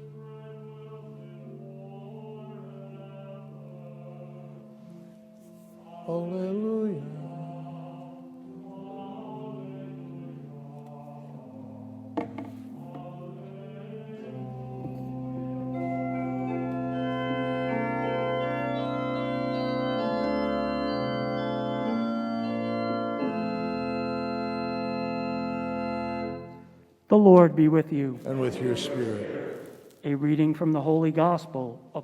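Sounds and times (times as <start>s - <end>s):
church organ playing chords: 0.0s - 29.8s.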